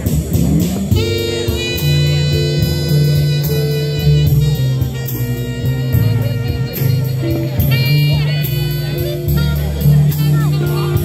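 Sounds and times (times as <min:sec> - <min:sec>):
bass line: 0:00.0 - 0:11.0.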